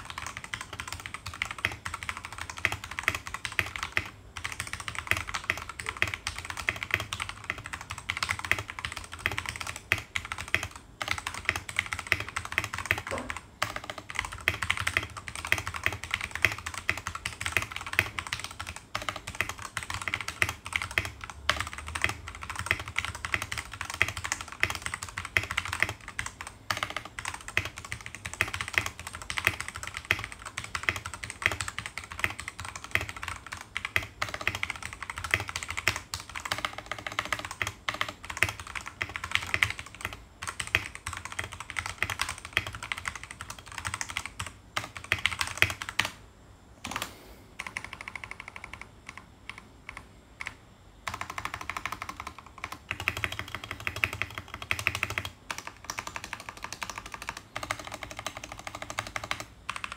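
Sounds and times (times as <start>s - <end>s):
fast mechanical keyboard typing: 0.0s - 46.2s, 46.8s - 59.9s.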